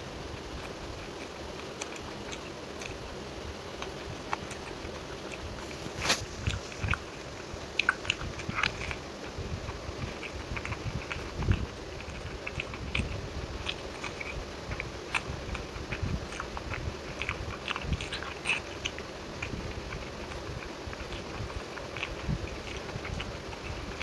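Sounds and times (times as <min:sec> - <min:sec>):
wet chewing and mouth smacking: 0:00.1 - 0:24.0.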